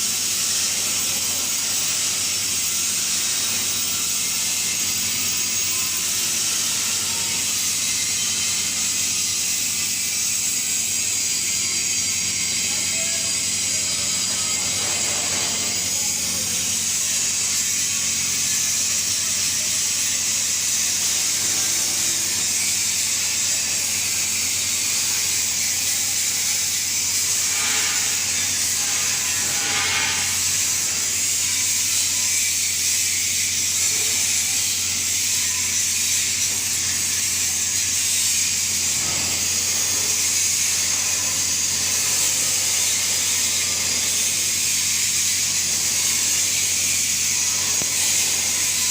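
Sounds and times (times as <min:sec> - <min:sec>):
welding arc hissing: 0:00.0 - 0:48.9.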